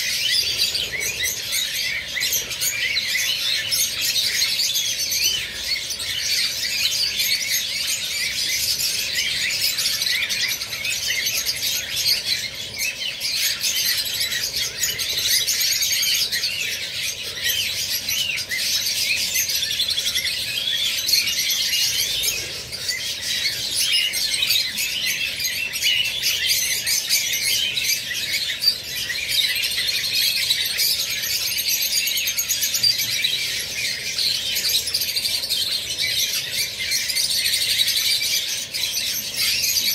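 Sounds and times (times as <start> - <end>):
flock of lovebirds chattering: 0.0 - 39.9.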